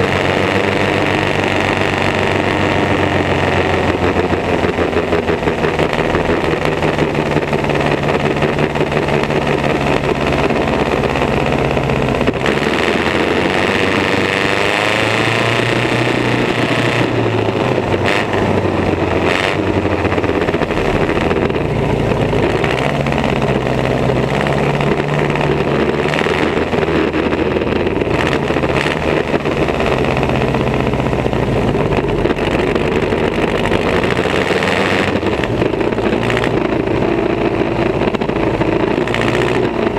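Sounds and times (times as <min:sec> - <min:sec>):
race car engines running: 0:00.0 - 0:39.9.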